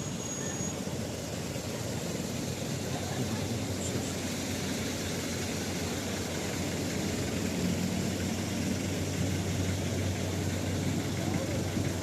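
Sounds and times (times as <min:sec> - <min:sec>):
rain hiss: 0:00.0 - 0:12.0
vehicle engine running: 0:00.0 - 0:12.0.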